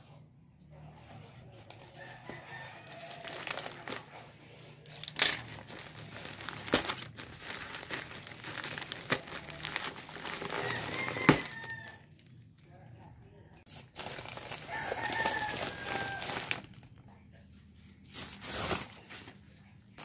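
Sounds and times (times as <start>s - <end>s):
plastic crinkling: 1.4s - 13.1s, 13.7s - 17.1s, 17.8s - 20.0s.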